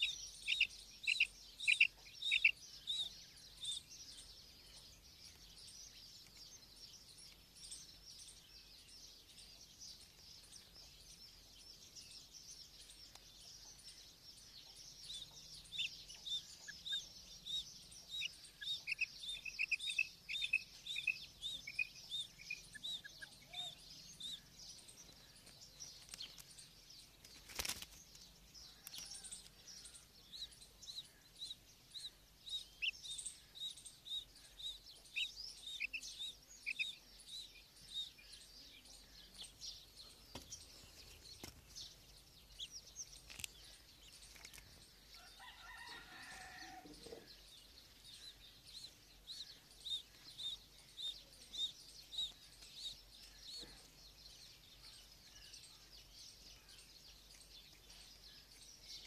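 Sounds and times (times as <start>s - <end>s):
quail chirping: 0.0s - 8.4s, 12.5s - 26.7s, 28.7s - 59.0s.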